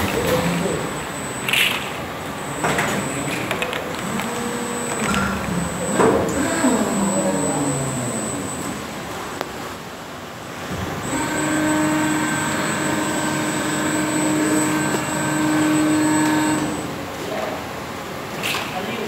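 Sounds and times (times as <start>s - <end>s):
moulding machine whine: 0.0s - 9.4s, 10.7s - 17.1s.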